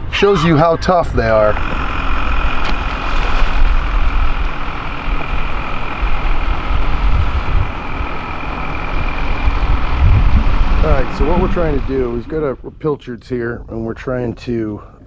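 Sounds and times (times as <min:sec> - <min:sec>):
boat motor running: 0:00.0 - 0:12.6
wind rumbling on microphone: 0:00.0 - 0:14.3
constant high whine: 0:00.0 - 0:15.0.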